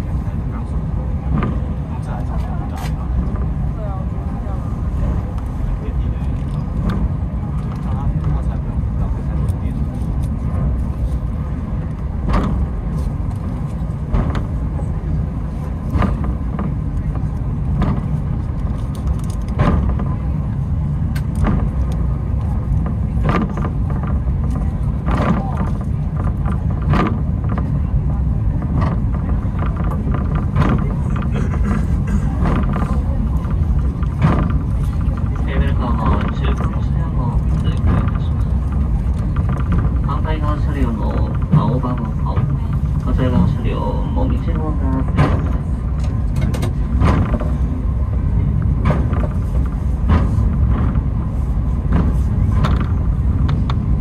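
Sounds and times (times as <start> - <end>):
cable car low rumble: 0.0 - 54.0
wheels clacking on track: 0.0 - 54.0.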